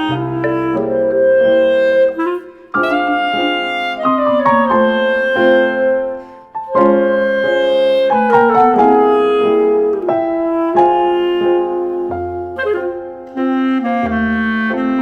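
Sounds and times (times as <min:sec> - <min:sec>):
piano: 0:00.0 - 0:15.0
woodwind melody: 0:00.0 - 0:15.0.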